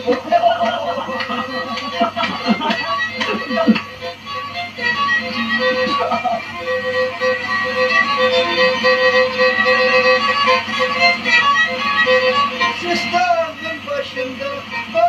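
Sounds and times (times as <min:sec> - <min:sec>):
bowed fiddle dance tune: 0:00.0 - 0:15.0.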